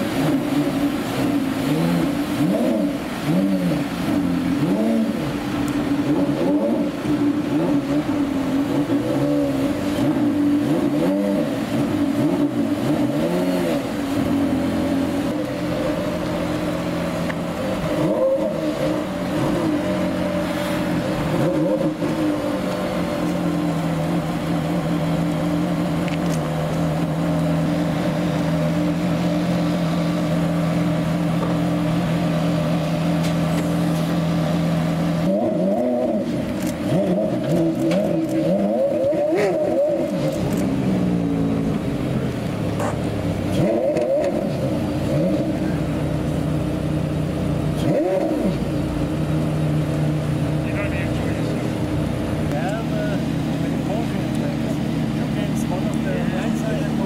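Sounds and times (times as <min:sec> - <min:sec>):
car engine running at low speed: 0:00.0 - 0:57.0.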